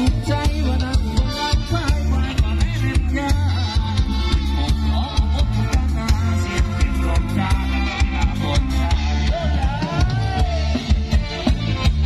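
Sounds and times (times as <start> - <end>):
loud live band music: 0.0 - 12.0.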